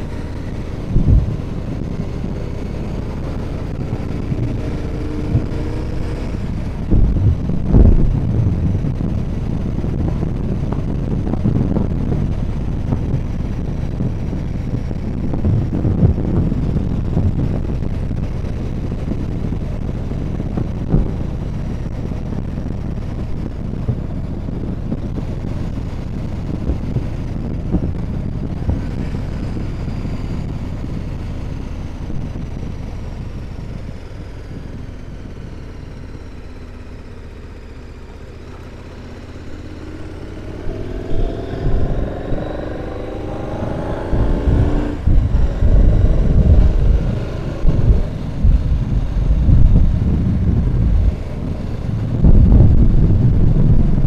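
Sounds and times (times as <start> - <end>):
motorcycle engine: 0.0 - 54.0
wind buffeting microphone: 0.0 - 54.0.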